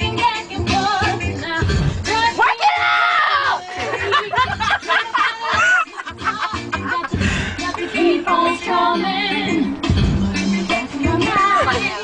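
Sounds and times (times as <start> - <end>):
music on car stereo: 0.0 - 12.0.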